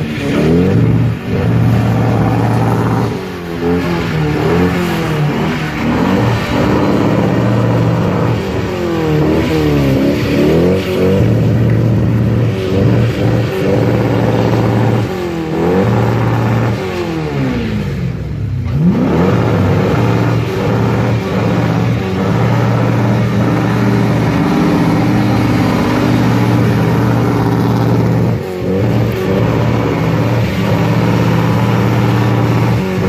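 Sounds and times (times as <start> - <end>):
car engine revving hard: 0.0 - 33.0.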